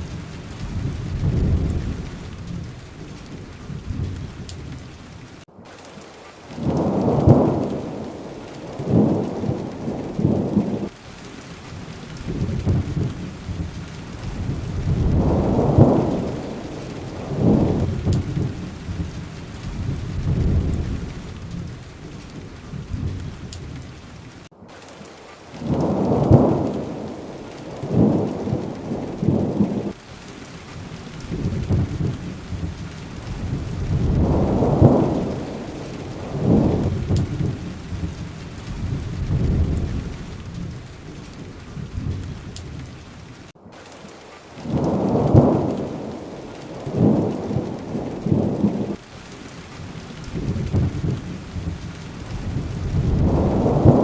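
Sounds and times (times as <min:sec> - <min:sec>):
steady rain: 0:00.0 - 0:54.0
thunder rumbling: 0:00.0 - 0:54.0.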